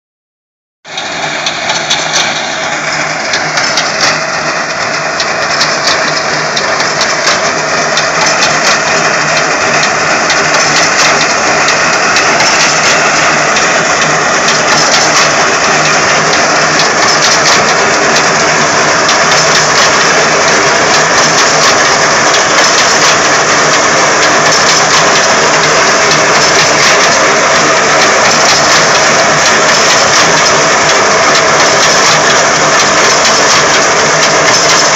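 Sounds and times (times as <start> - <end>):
tractor engine running: 0.9 - 34.9.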